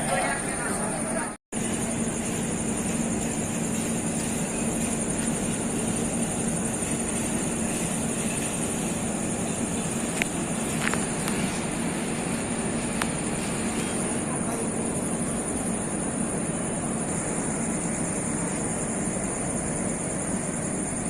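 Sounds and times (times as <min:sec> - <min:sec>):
passenger train running: 0:00.0 - 0:21.0.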